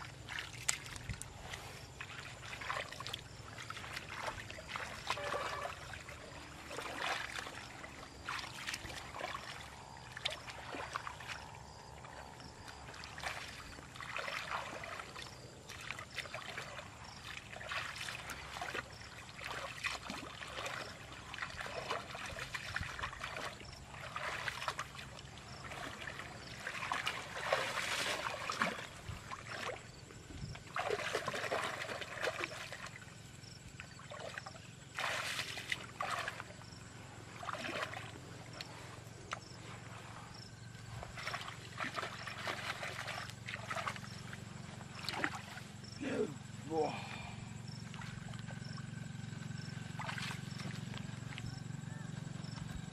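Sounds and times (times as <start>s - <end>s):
muddy water splashing and sloshing: 0.0s - 52.9s.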